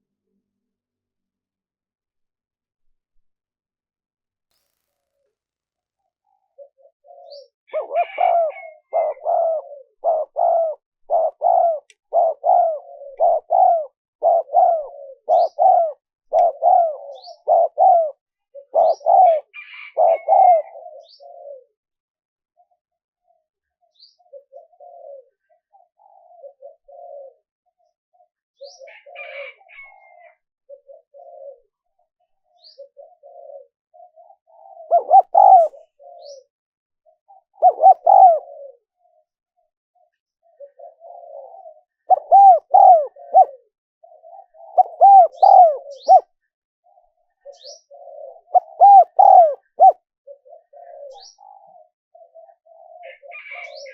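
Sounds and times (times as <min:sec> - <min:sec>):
dove cooing: 0:06.0 - 0:22.0, 0:22.6 - 0:53.9.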